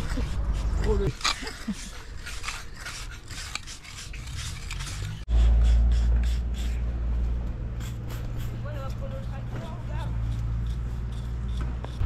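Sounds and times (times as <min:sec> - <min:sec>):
hand tool scraping mortar joints: 0:00.0 - 0:06.9, 0:07.8 - 0:12.0.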